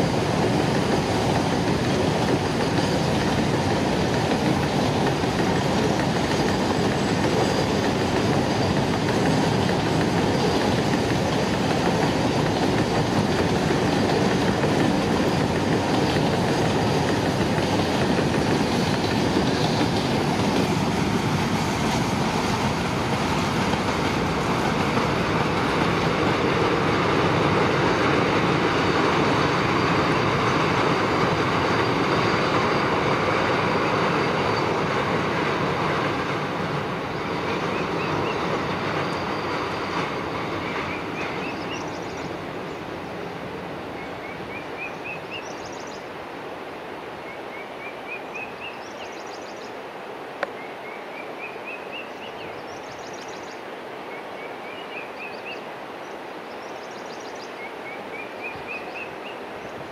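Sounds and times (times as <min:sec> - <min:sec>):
train rumbling over steel bridge: 0:00.0 - 0:59.9.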